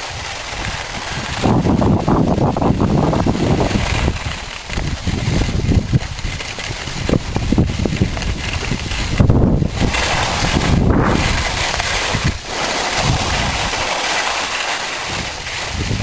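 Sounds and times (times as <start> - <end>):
wind buffeting microphone: 0.0 - 13.9, 15.0 - 16.0
skis scraping on snow: 0.0 - 16.0.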